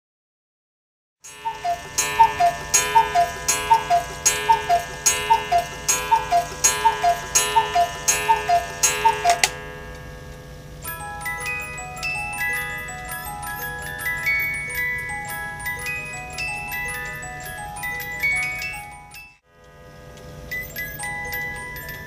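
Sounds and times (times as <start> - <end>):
clock gong ringing: 1.2 - 19.4
cuckoo clock call: 1.2 - 19.4, 20.4 - 22.0.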